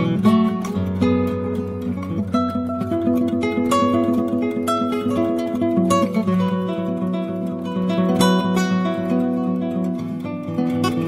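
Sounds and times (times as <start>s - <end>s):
plucked guitar picking: 0.0s - 11.0s.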